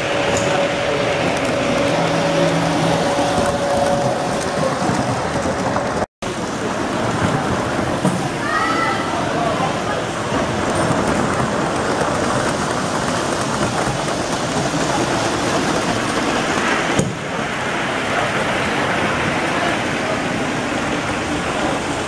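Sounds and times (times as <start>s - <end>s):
model train wheels rumbling: 0.0s - 22.0s.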